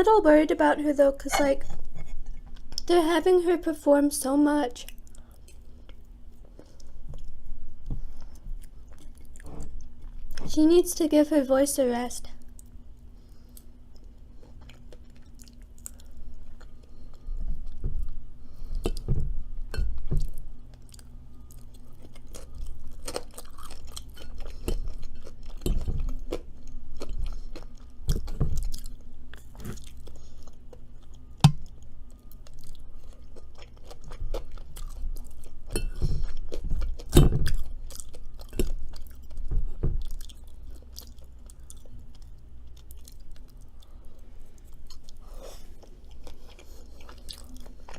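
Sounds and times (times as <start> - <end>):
person chewing and crunching food: 4.8 - 10.5, 12.4 - 47.9.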